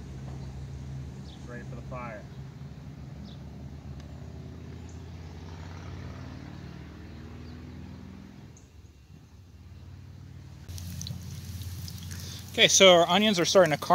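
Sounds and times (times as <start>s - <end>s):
vehicle engine hum: 0.0s - 13.9s.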